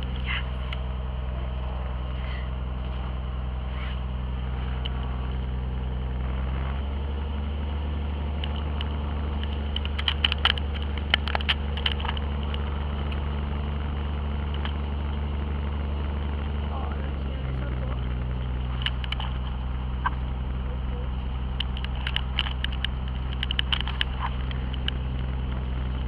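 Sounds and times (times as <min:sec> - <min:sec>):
airplane propeller engine running: 0:00.0 - 0:26.0
sharp clicks and rattles: 0:00.0 - 0:26.0.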